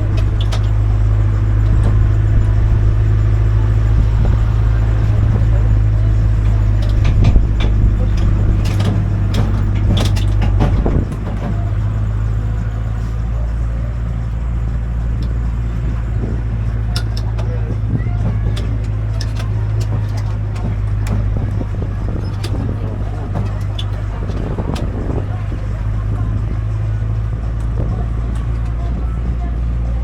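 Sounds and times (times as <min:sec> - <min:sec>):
clicks and rattles: 0:00.0 - 0:29.9
engine humming: 0:00.0 - 0:30.0.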